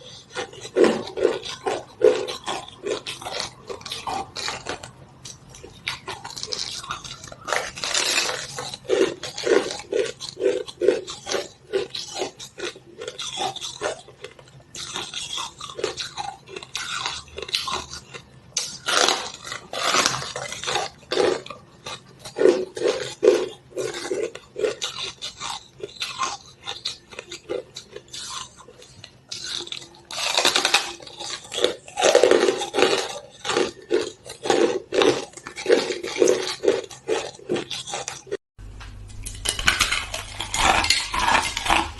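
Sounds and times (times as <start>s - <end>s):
person chewing ice: 0.0s - 41.9s.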